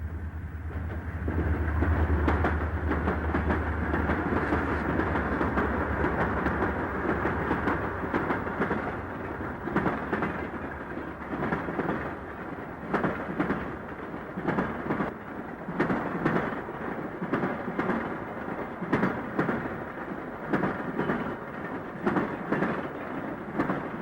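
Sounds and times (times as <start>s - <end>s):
rumble of rolling train cars: 0.0s - 24.0s.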